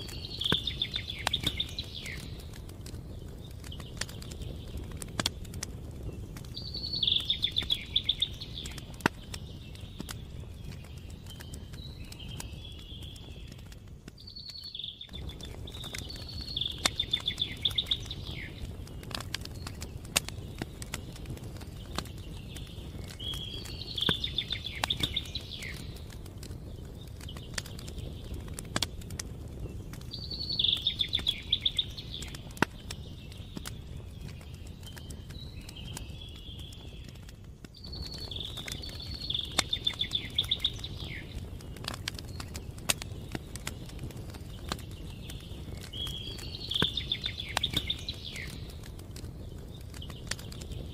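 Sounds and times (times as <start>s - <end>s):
campfire crackling and popping: 0.0s - 50.9s
songbird singing with trill: 0.0s - 50.9s.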